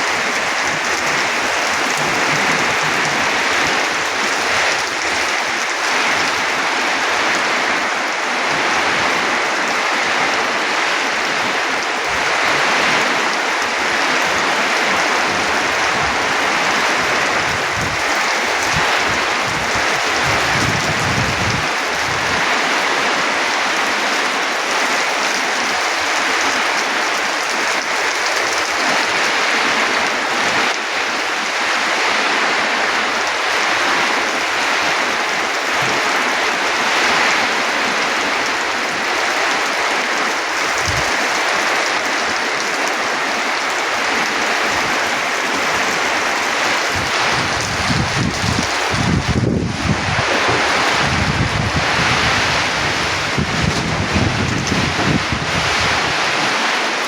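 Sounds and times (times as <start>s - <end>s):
heavy rain pouring: 0.0s - 57.0s
wind gusts on microphone: 0.0s - 57.0s.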